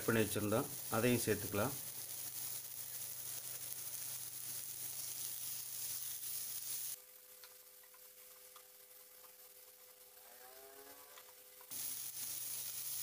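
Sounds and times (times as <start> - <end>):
vegetables sizzling in oil: 0.0 - 10.2, 11.2 - 13.0.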